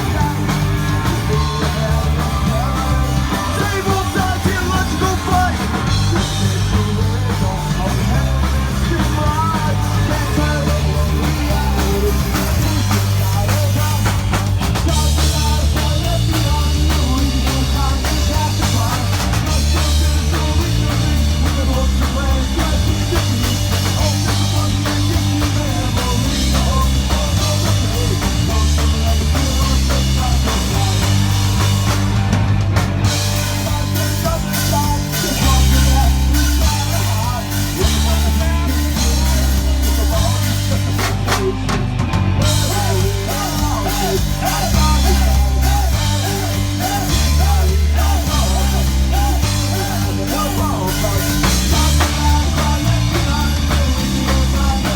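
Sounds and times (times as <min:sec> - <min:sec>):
person singing: 0:00.0 - 0:32.1, 0:33.0 - 0:54.9
live punk rock band: 0:00.0 - 0:54.9.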